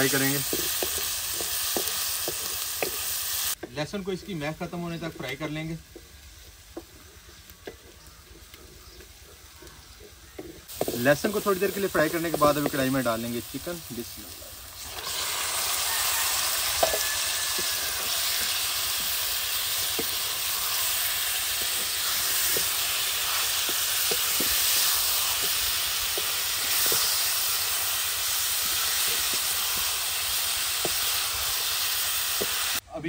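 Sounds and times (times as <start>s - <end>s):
chicken frying in hot oil: 0.0s - 5.8s, 10.3s - 32.8s.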